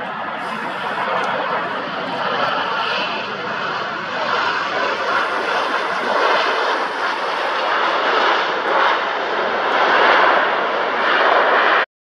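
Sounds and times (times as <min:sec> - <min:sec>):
jet engines roaring: 0:00.0 - 0:11.9.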